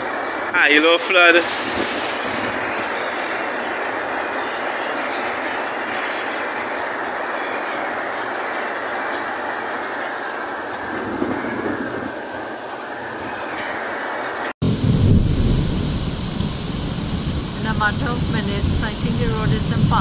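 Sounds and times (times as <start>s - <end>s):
heavy rain pouring: 0.0s - 20.0s
running floodwater: 0.0s - 20.0s.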